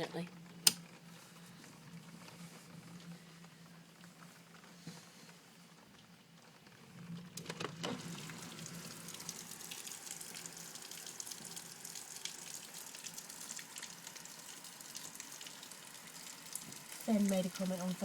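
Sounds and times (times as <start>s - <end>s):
heavy rain pelting down: 0.0s - 18.0s.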